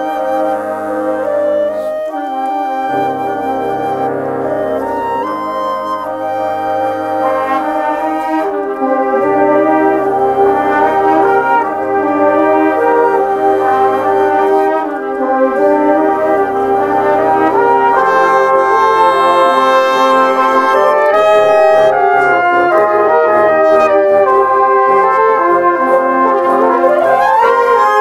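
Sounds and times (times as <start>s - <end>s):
brass concert band music: 0.0s - 28.0s.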